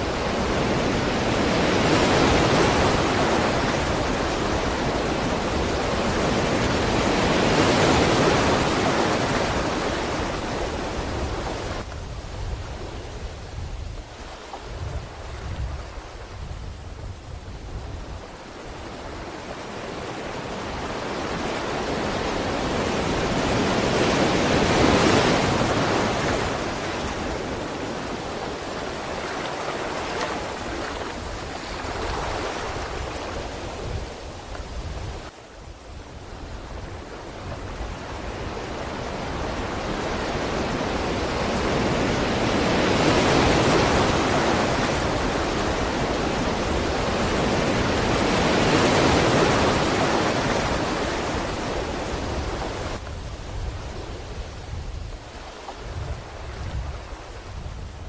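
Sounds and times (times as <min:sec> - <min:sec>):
ocean surf washing on shore: 0:00.0 - 0:58.0.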